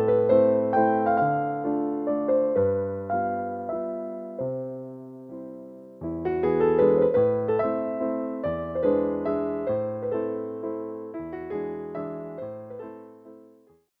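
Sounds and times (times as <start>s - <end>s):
gentle piano melody: 0.0s - 13.9s.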